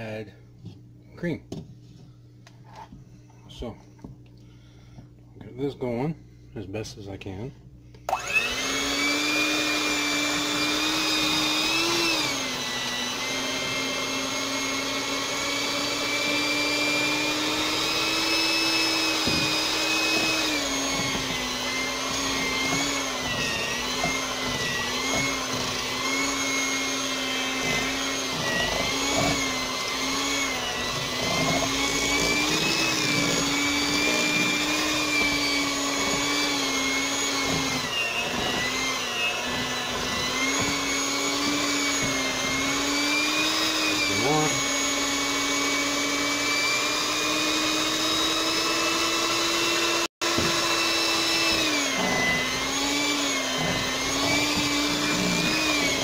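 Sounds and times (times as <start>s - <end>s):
electric mixer running: 8.0s - 56.0s.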